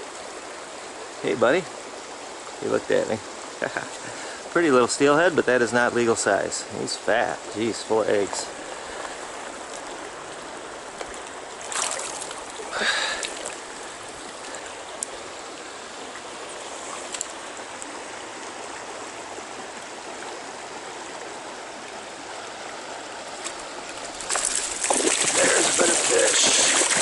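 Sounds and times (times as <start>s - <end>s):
stream water flowing: 0.0s - 27.0s.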